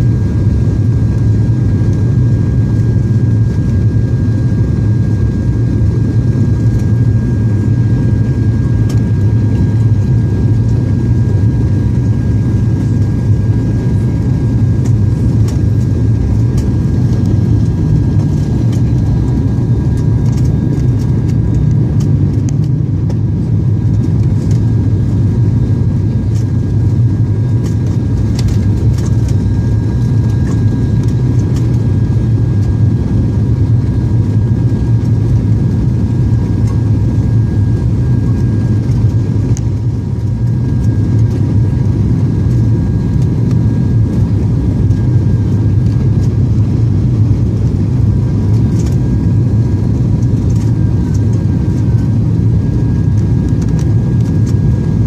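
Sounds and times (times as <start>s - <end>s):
propeller airliner cabin drone: 0.0s - 55.0s.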